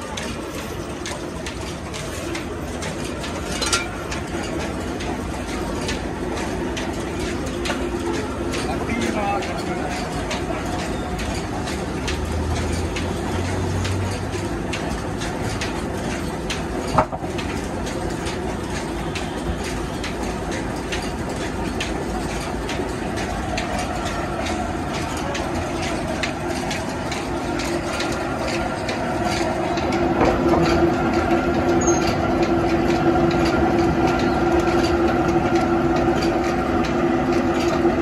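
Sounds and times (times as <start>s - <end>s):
band saw machinery rattling: 0.0s - 38.0s.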